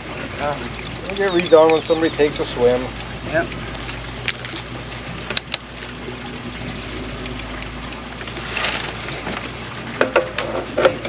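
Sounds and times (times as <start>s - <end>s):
engine idling: 0.0s - 11.0s
sharp clicks and knocks: 0.0s - 11.0s.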